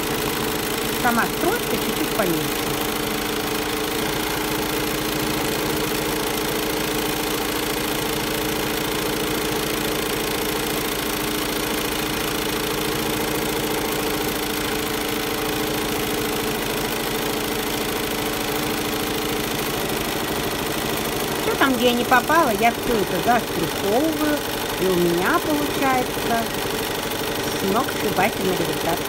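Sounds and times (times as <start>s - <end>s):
sewing machine running: 0.0s - 29.0s.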